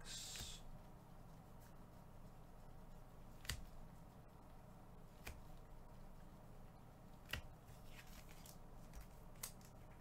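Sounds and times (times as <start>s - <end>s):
faint low room hum: 0.0s - 10.0s.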